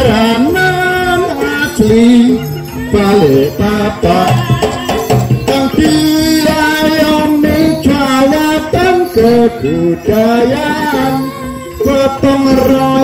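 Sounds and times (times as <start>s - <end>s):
jingling bells: 0.0s - 13.0s
wavering held melody: 0.0s - 13.0s.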